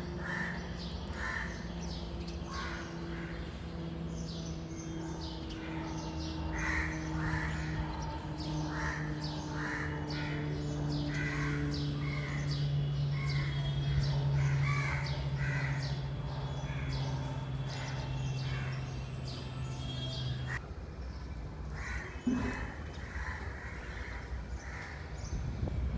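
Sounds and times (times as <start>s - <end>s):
birds giving harsh calls: 0.1s - 20.6s, 21.7s - 25.4s.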